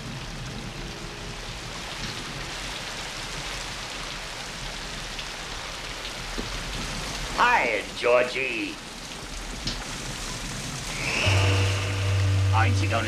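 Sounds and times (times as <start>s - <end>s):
rain on wet street: 0.0s - 13.0s.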